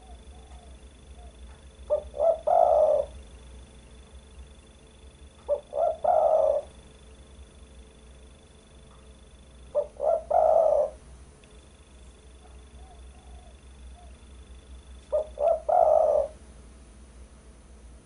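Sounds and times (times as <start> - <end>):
dove cooing: 0.0 - 16.5.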